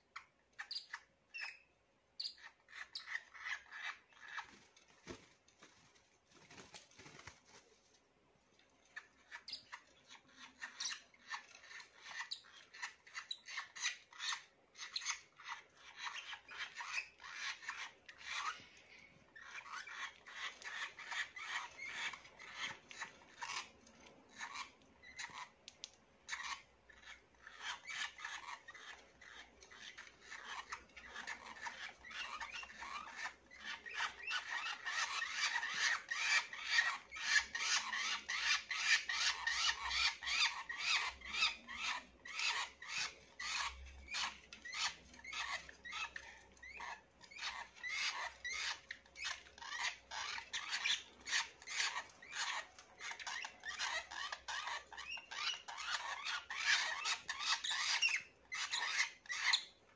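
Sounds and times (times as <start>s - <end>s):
lovebirds chirping: 0.0s - 7.6s, 8.8s - 59.9s.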